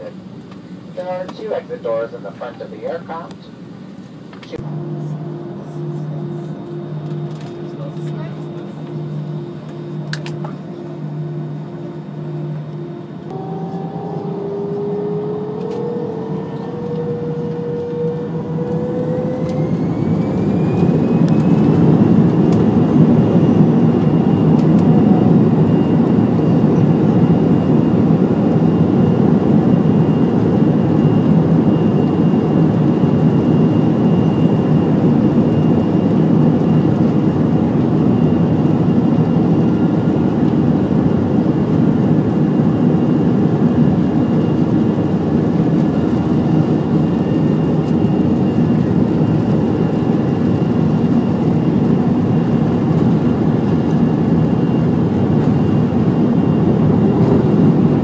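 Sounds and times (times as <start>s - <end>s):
faint high engine whine: 0.0s - 58.0s
jet engines at takeoff thrust: 0.0s - 58.0s.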